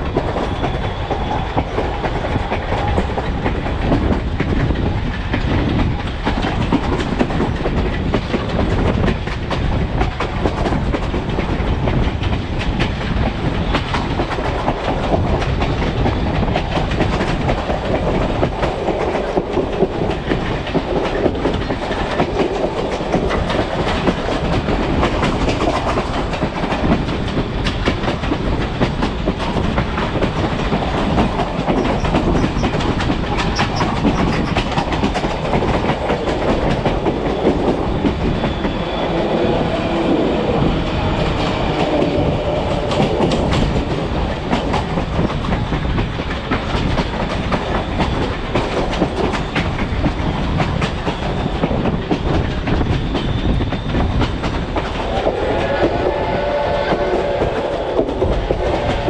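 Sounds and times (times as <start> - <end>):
wheels clacking over rail joints: 0.0 - 56.0
train wheels rumbling on rails: 0.0 - 59.0.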